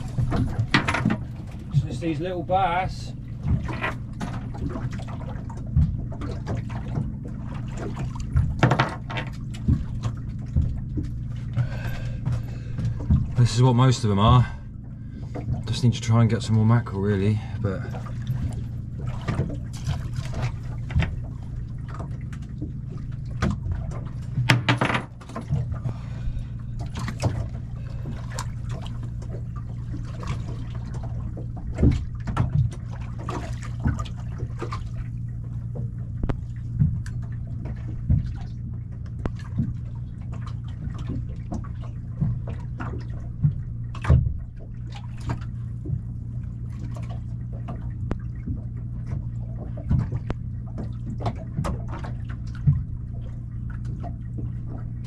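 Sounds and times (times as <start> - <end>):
steady low hum: 0.0 - 55.0
water lapping against a boat hull: 0.0 - 55.0
water splashes: 0.0 - 55.0.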